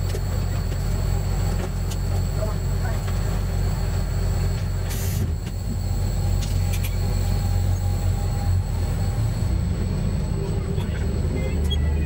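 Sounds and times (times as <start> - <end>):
diesel railcar engine drone: 0.0 - 12.0.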